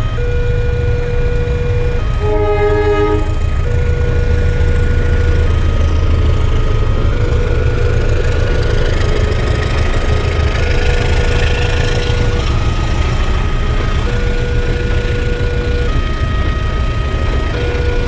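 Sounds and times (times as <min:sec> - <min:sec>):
train carriages rumbling past: 0:00.0 - 0:18.0.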